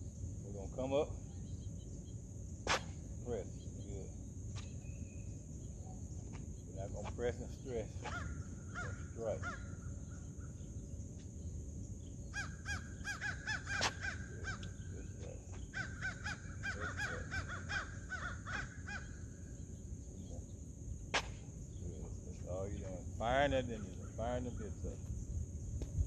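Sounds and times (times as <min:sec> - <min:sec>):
steady high hiss: 0:00.0 - 0:15.5, 0:19.2 - 0:26.0.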